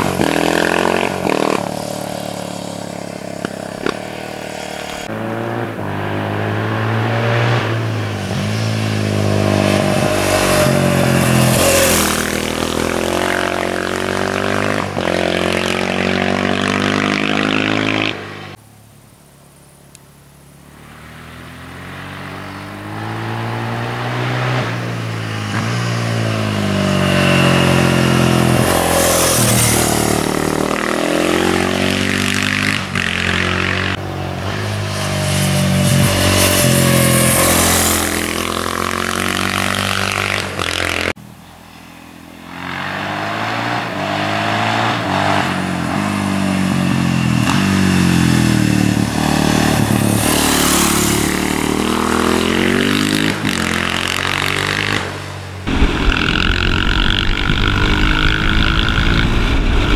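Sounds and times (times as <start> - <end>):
motorcycle engine revving: 0.0 - 18.6, 20.6 - 41.2, 42.4 - 59.9.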